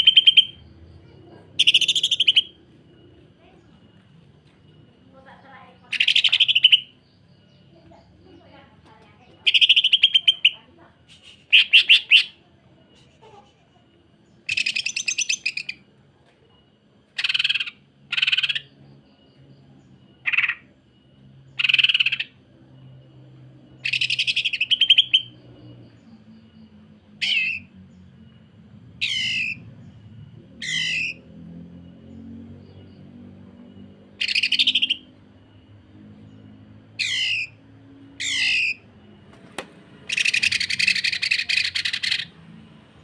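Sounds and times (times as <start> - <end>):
bird singing rattling phrases: 0.0 - 43.0.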